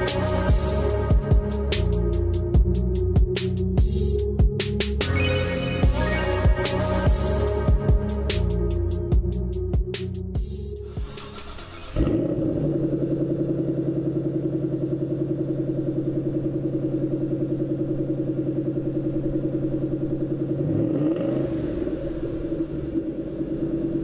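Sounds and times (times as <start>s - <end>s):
car engine starting and idling: 0.0s - 24.0s.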